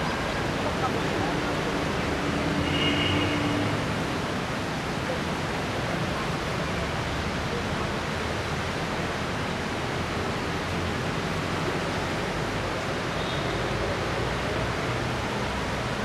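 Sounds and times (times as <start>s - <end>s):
flood water rushing: 0.0s - 16.0s
traffic in underpass: 0.0s - 16.0s.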